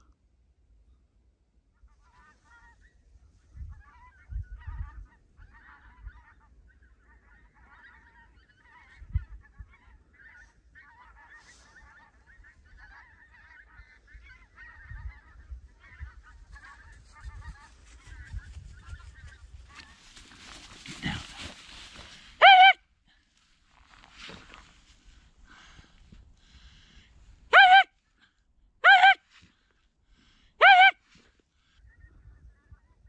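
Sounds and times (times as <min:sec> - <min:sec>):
geese honking: 0:01.7 - 0:22.9, 0:23.9 - 0:33.0.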